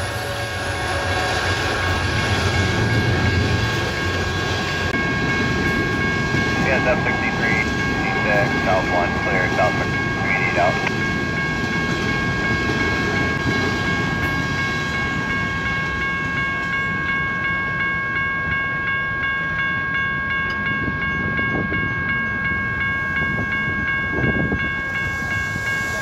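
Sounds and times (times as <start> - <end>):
low rumble of rail traffic: 0.0 - 26.0
railroad crossing bell ringing: 0.0 - 26.0.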